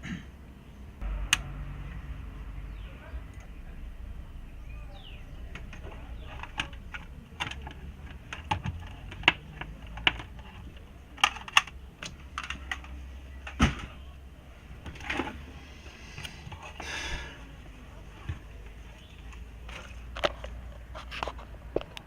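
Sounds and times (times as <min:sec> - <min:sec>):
steady low hum: 0:00.0 - 0:20.8.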